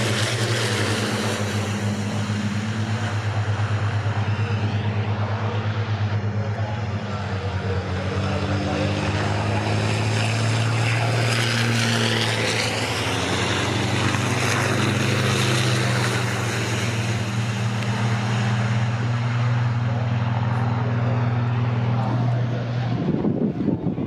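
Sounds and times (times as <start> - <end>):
engine whine: 0.0 - 24.0
heavy diesel engines droning: 0.0 - 24.0.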